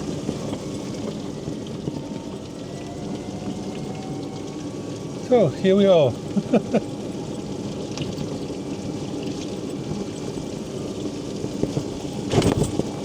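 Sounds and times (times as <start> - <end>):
rain and wet tyres hissing: 0.0 - 13.0.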